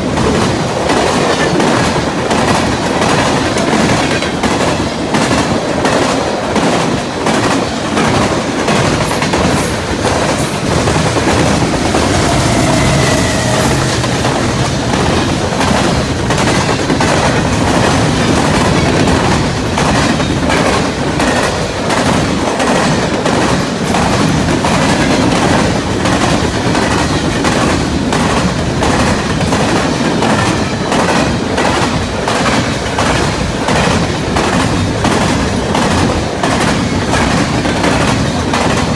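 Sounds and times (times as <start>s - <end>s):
train wheels clacking over rail joints: 0.0s - 38.9s.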